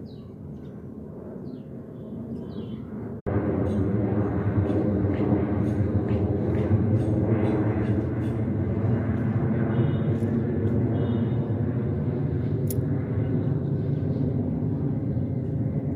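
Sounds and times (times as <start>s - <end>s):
low outdoor rumbling: 2.2s - 15.9s.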